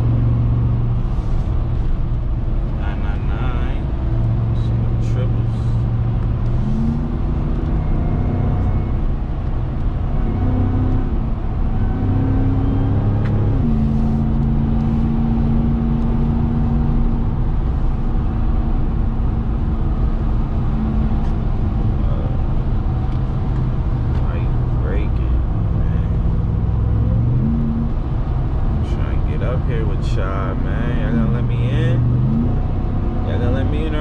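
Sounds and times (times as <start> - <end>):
truck engine running while driving: 0.0 - 34.0
tyre and road noise: 0.0 - 34.0.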